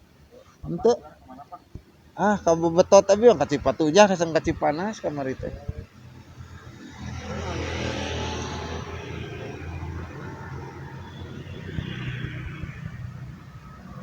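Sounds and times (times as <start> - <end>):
vehicle passing by: 2.2 - 14.0.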